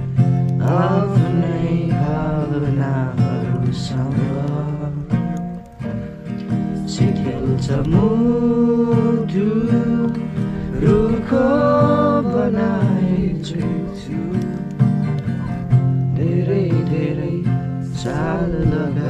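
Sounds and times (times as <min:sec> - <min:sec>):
acoustic guitar: 0:00.0 - 0:19.0
person singing: 0:00.6 - 0:05.3, 0:06.8 - 0:19.0.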